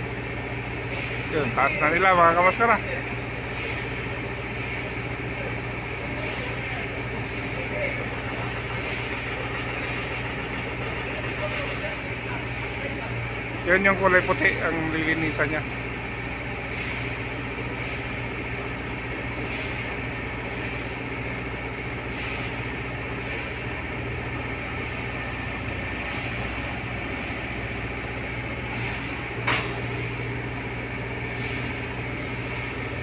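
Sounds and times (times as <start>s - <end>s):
factory machinery humming: 0.0s - 33.0s.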